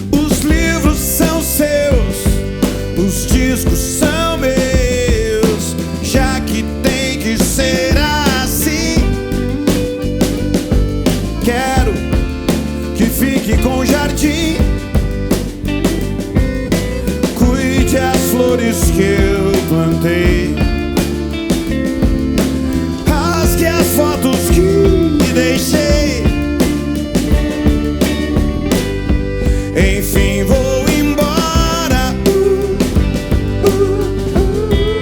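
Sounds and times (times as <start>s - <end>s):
rock band playing live: 0.0s - 35.0s.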